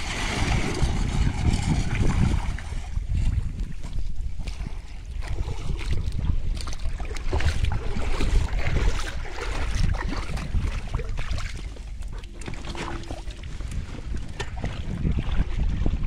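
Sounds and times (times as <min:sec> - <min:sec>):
shallow water splashing: 0:00.0 - 0:16.0
wind on microphone: 0:00.0 - 0:16.0.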